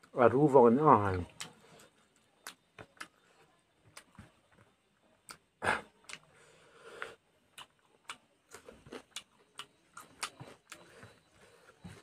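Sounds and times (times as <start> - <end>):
wet chewing and lip-smacking: 1.0 - 12.0.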